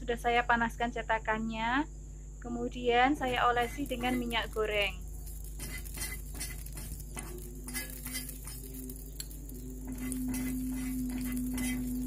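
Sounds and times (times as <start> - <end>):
faint sizzle: 0.0 - 12.0
steady low hum: 0.0 - 12.0.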